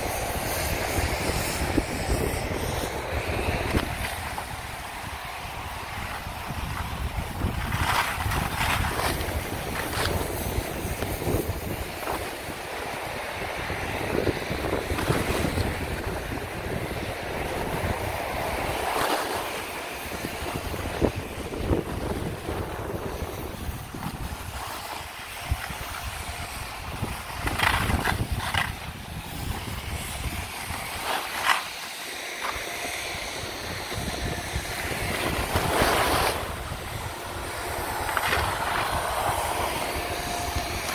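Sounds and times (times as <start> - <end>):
skis scraping packed snow: 0.0 - 40.9
wind rushing over microphone: 0.0 - 40.9.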